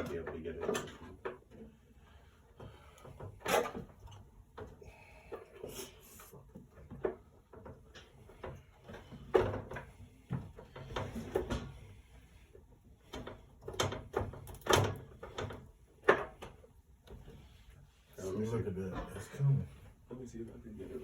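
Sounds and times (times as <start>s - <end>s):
knocks and scrapes at a vent: 0.0s - 4.8s, 5.5s - 21.0s.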